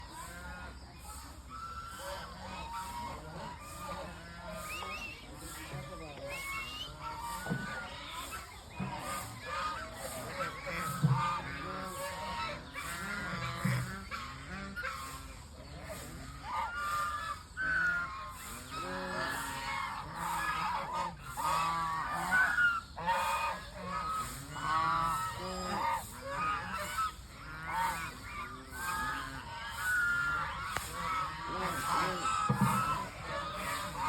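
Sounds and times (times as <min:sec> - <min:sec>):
flock of waterfowl calling: 0:00.0 - 0:34.0.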